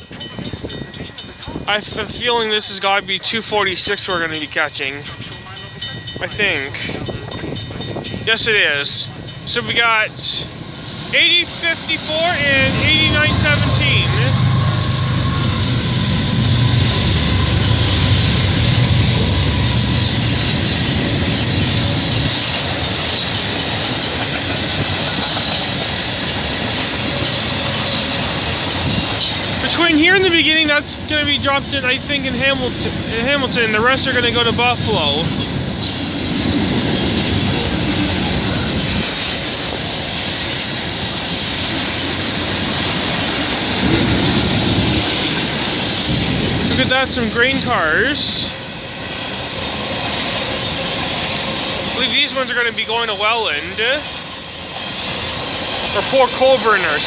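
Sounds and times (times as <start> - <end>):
diesel locomotive drone: 0.0 - 57.0
freight cars rolling on rails: 0.0 - 57.0.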